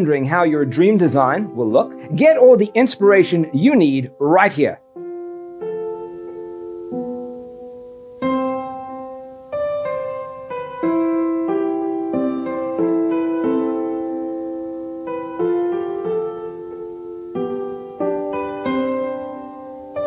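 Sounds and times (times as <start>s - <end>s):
slow gentle piano tune: 0.0s - 20.0s.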